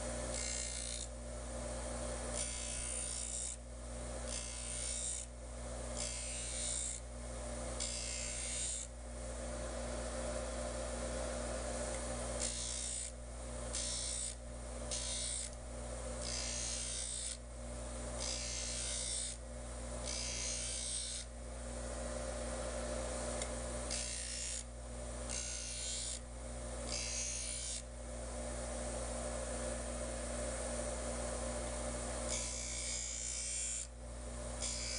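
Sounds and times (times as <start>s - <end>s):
bench grinder motor hum: 0.0s - 34.9s.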